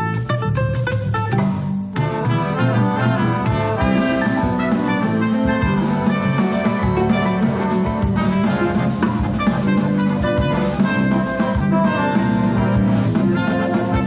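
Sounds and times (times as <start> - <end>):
drums keeping a beat: 0.0 - 14.0
plucked strings: 0.0 - 14.0.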